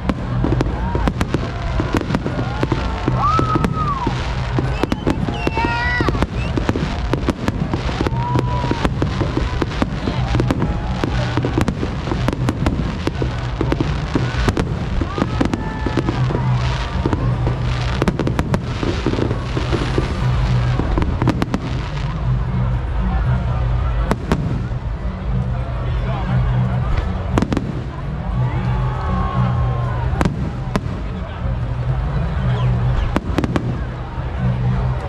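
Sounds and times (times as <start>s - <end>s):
fireworks bursting and crackling: 0.0s - 25.6s, 26.8s - 35.0s.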